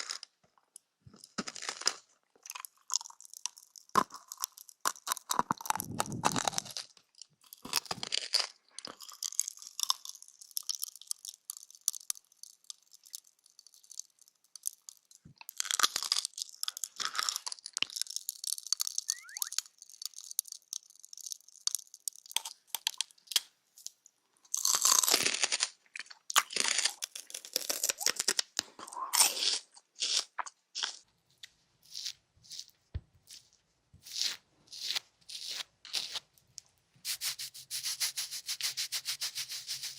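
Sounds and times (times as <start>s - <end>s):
close crunching and crackling: 0.0s - 37.2s.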